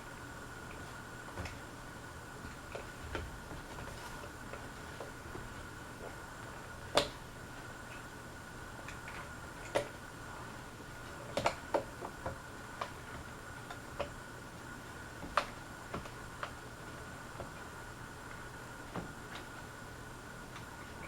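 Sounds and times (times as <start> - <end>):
ceiling fan hum: 0.0 - 21.0.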